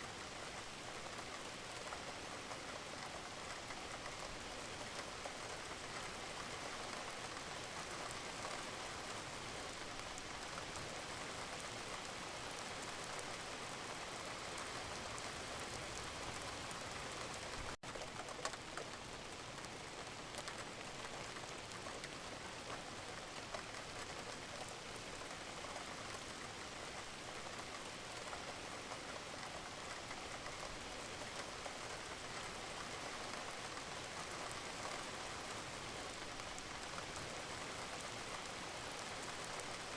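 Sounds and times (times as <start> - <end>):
steady rain falling: 0.0 - 39.9
raindrops ticking on a surface: 0.1 - 39.9.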